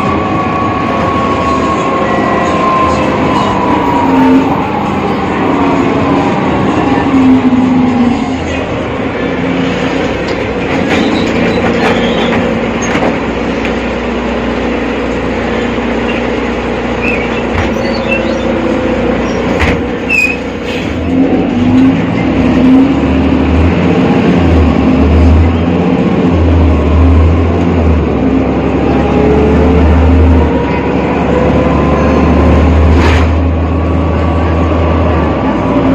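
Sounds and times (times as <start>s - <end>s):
bus drivetrain hum with whine: 0.0s - 35.9s.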